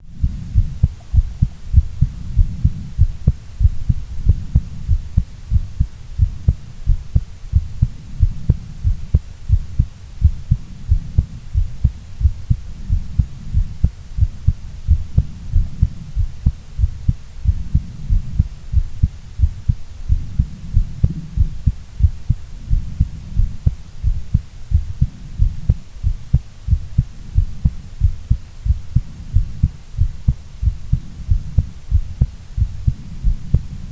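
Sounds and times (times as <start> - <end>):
heartbeat thumps: 0.0 - 33.9
low rumble: 0.0 - 33.9.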